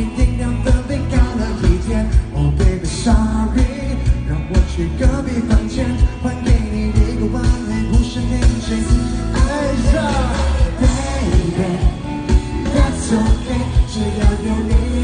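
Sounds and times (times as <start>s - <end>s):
heavy drum beat: 0.0s - 15.0s
live pop song singing: 0.0s - 15.0s.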